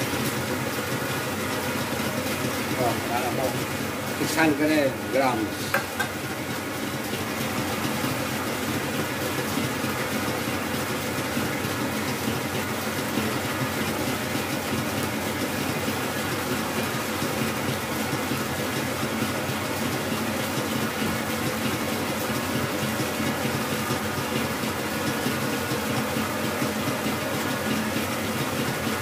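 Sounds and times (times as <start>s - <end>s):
stand mixer whisking in metal bowl: 0.0s - 29.0s.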